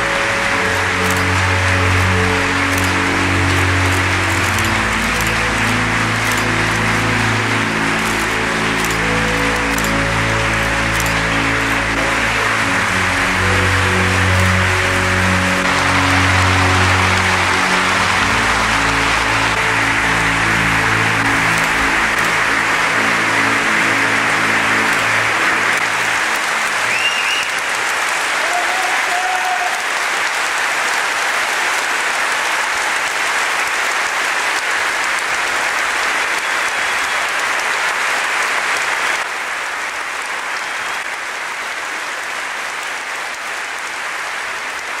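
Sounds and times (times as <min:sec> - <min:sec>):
large audience applauding: 0:00.0 - 0:45.0
music: 0:00.0 - 0:45.0.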